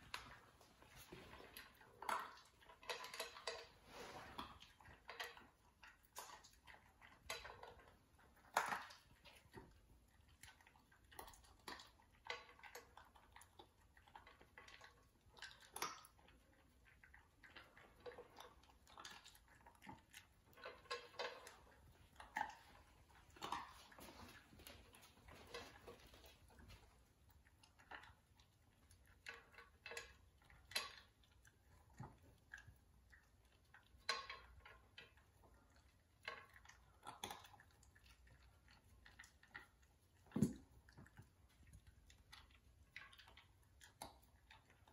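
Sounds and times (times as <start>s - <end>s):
dog crunching dry kibble: 0.0s - 44.9s.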